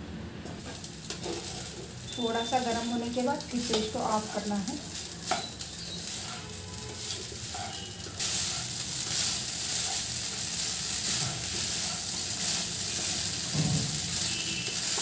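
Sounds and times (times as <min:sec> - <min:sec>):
rice sizzling in a pan: 0:00.6 - 0:15.0.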